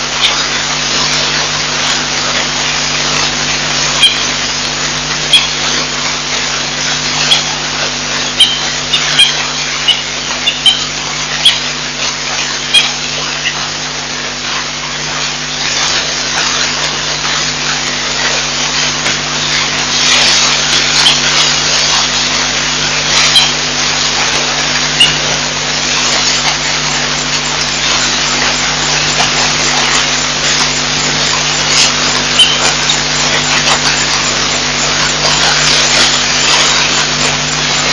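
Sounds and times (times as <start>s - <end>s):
low hum: 0.0s - 37.9s
steady hiss: 0.0s - 37.9s.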